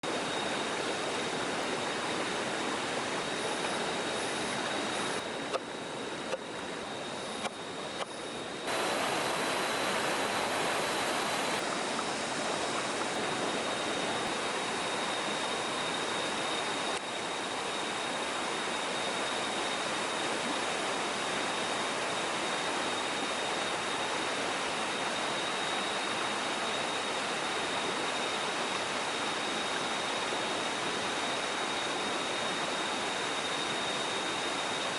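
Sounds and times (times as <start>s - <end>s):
rushing stream water: 0.1s - 34.9s.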